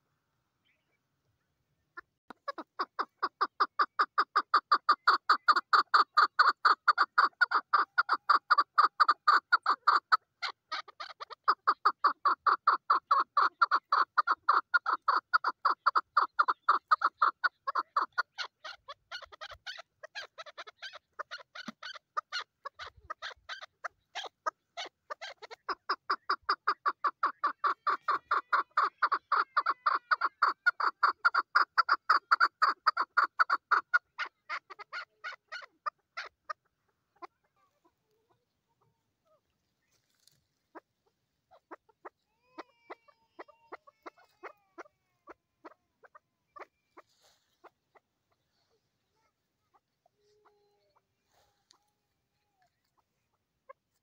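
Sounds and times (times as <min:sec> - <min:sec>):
partridge clucking calls: 0:02.0 - 0:51.9, 0:52.6 - 0:54.0.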